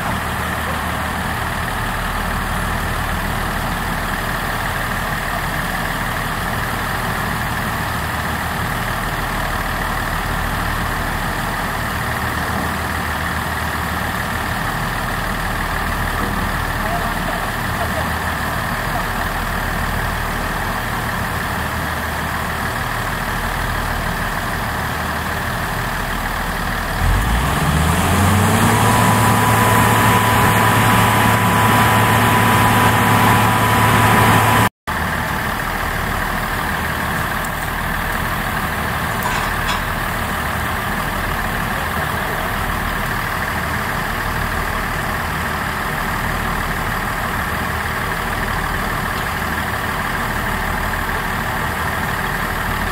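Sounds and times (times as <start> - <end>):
diesel railcar engine: 0.0 - 52.9.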